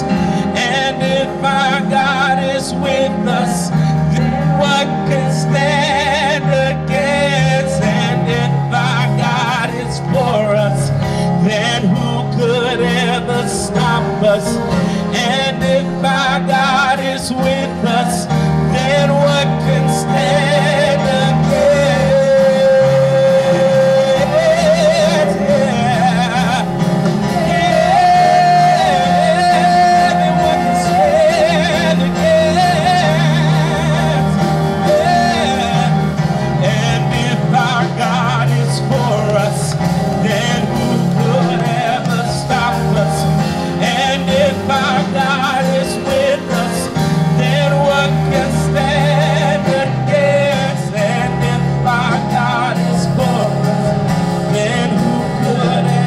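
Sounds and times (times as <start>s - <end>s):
gospel band playing: 0.0s - 56.0s
man singing with vibrato: 0.0s - 56.0s.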